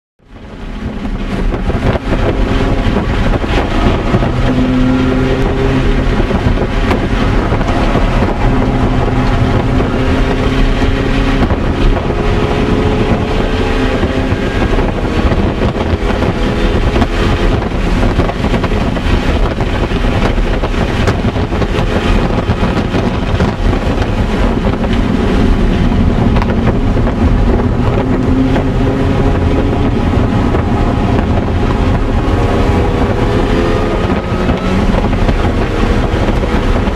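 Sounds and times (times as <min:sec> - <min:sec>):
wind and road noise: 0:00.2 - 0:36.9
car engine revving through gears: 0:00.3 - 0:36.9.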